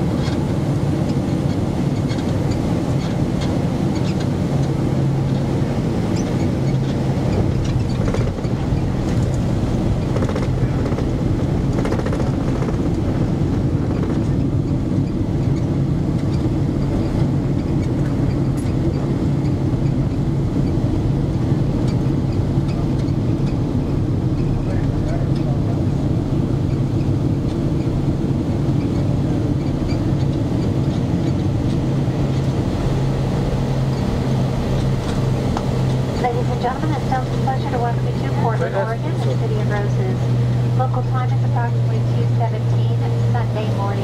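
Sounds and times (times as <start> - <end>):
airframe rumble: 0.0 - 44.0
jet engines at low power: 0.0 - 44.0
steady low hum: 0.0 - 44.0.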